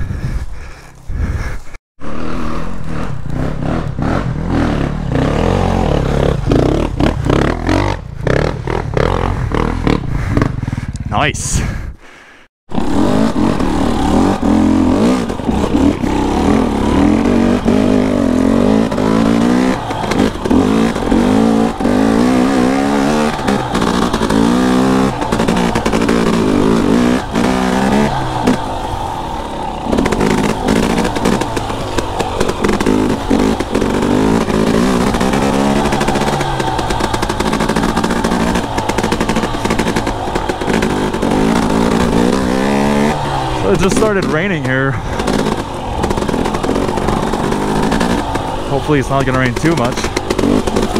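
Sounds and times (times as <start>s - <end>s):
dirt bike engine revving: 2.0s - 11.5s, 12.7s - 50.9s.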